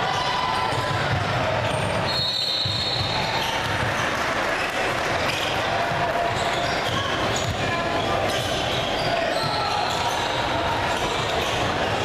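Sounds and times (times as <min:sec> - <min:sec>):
echoing noise of gym hall: 0:00.0 - 0:12.0
sneaker squeak: 0:01.6 - 0:11.8.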